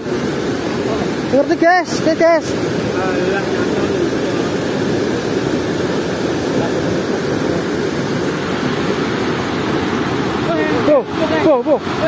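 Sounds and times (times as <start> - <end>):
water roaring through sluice gate: 0.0 - 12.0.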